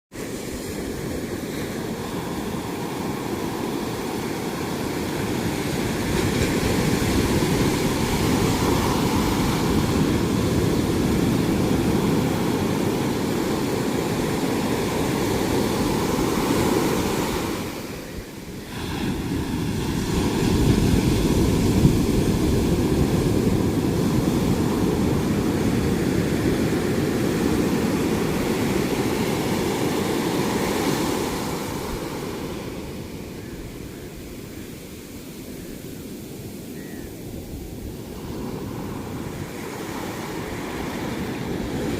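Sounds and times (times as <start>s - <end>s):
waves breaking: 0.2s - 35.7s, 36.3s - 41.9s.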